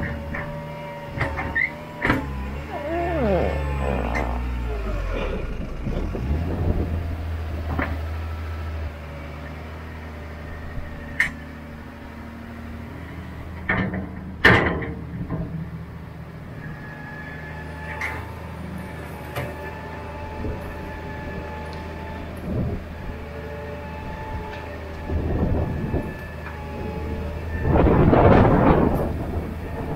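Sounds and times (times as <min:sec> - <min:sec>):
loader engine running: 0:00.0 - 0:29.9.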